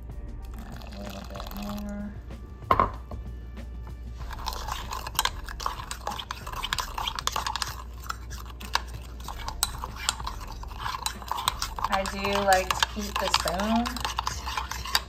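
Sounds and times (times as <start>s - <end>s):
spoon stirring in ceramic mug: 0.5s - 1.9s, 4.2s - 15.0s.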